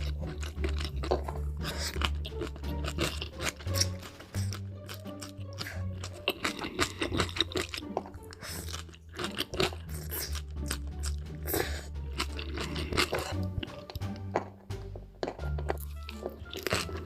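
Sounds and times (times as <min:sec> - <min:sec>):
background music: 0:00.0 - 0:17.0
person chewing crunchy food: 0:00.0 - 0:17.0.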